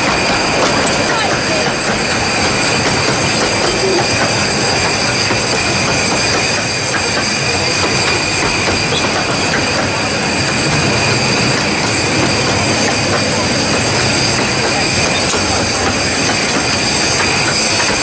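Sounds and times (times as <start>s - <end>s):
high-pitched hiss and squeal: 0.0s - 18.0s
wheels clicking over rails: 0.0s - 18.0s.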